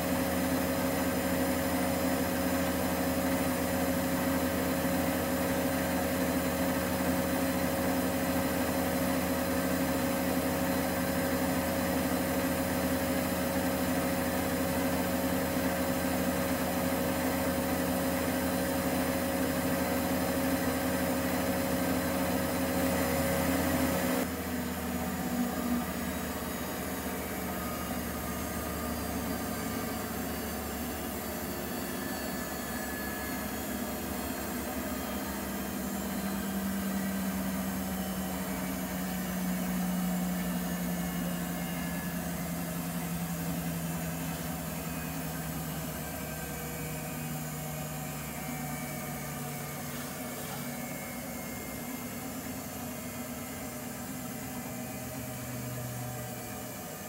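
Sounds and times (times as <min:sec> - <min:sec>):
washing machine motor hum: 0:00.0 - 0:57.0
washing machine whine: 0:00.0 - 0:57.0.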